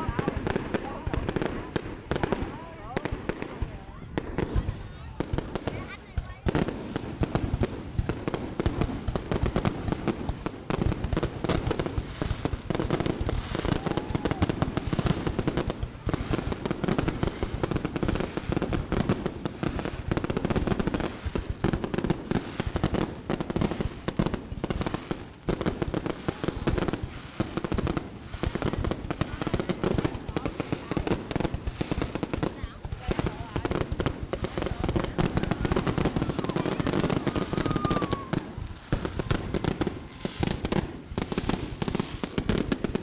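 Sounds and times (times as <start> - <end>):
fireworks crackling and popping: 0.0 - 43.0.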